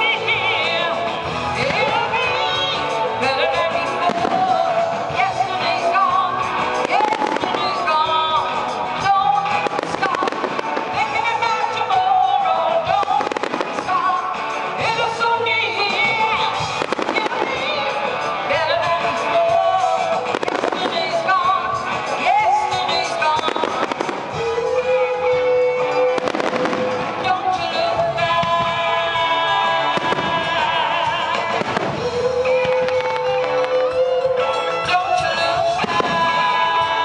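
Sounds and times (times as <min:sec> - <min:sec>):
music with sung melody: 0:00.0 - 0:37.0
fireworks bursting: 0:01.6 - 0:34.8, 0:35.4 - 0:37.0.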